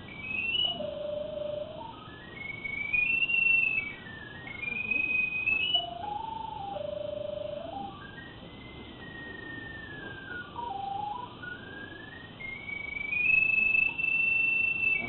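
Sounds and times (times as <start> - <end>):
electronic locator tone: 0.0 - 15.0.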